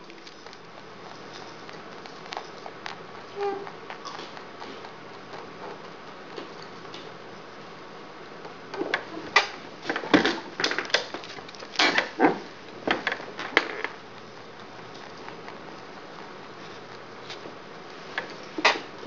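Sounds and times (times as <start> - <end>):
rabbit crunching popcorn: 0.0 - 19.0.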